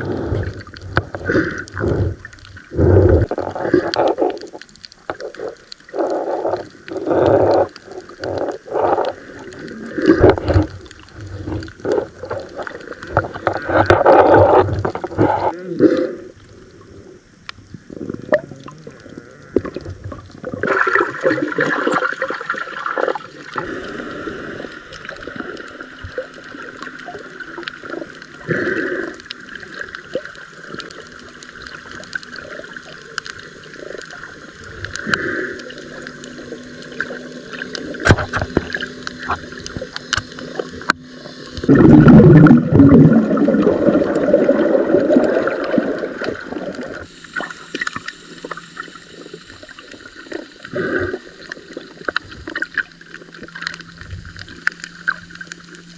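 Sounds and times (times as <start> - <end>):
splashing and bubbles rush: 0.0 - 16.0, 17.8 - 55.9
muffled underwater gurgling: 0.0 - 55.9
small clicks underwater: 0.0 - 55.9.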